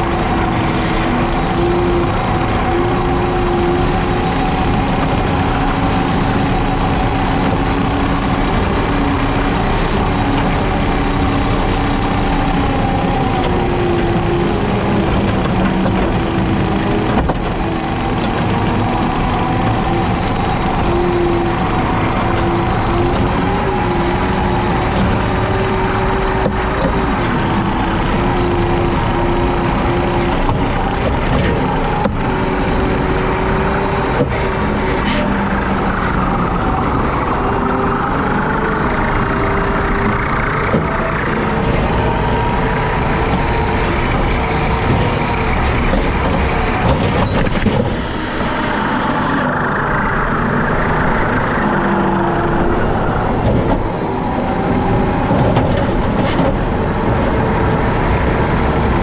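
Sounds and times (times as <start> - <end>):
mower blade noise: 0.0 - 53.8
diesel engine under load: 0.0 - 59.0.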